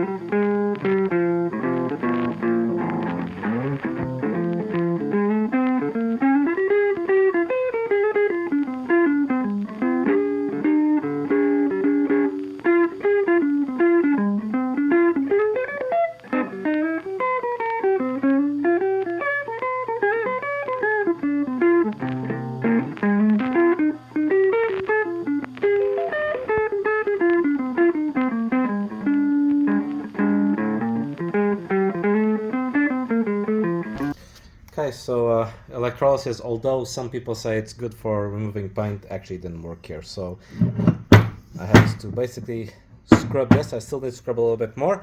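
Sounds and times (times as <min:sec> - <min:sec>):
plucked guitar instrumental: 0:00.0 - 0:39.7, 0:40.4 - 0:44.1.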